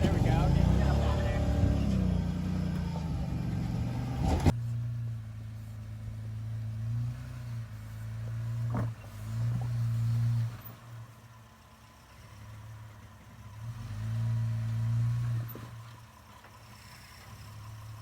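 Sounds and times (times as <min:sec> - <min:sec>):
off-road vehicle engine at low revs: 0:00.0 - 0:18.0.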